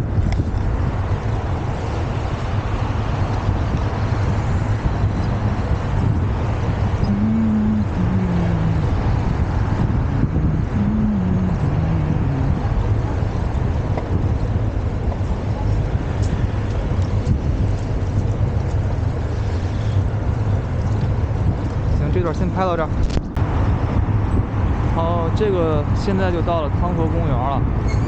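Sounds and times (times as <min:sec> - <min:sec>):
road traffic: 0:00.0 - 0:28.0
wind rumble over microphone: 0:00.0 - 0:28.0.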